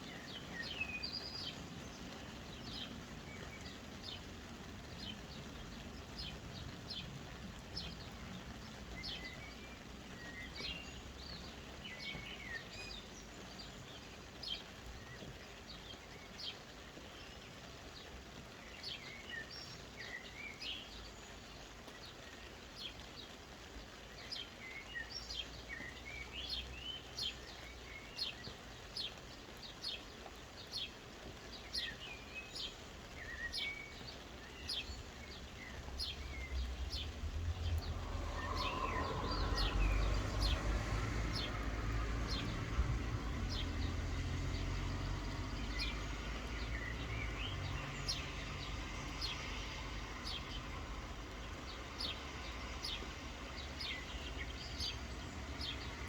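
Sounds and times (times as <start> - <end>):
small birds chirping: 0.0 - 56.0
soft rain: 0.0 - 56.0.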